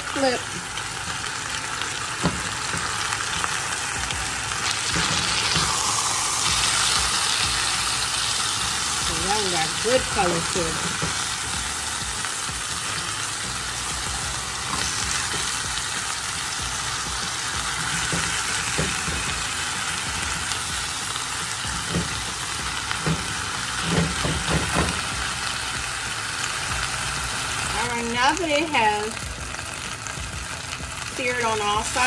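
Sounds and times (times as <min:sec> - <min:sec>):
meat sizzling in hot oil: 0:00.0 - 0:32.0.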